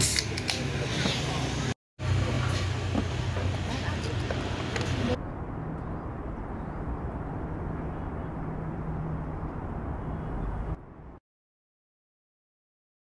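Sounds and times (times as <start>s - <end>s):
moving vehicle rumble: 0.3s - 11.2s.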